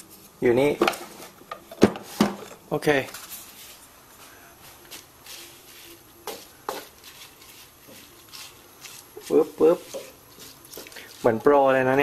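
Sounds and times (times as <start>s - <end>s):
low room noise: 0.0s - 12.0s.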